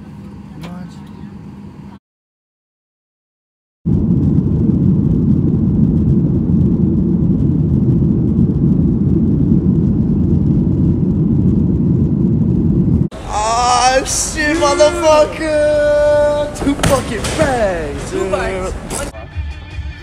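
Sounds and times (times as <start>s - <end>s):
airliner engine and airflow rumble: 0.0s - 2.0s, 3.9s - 19.2s.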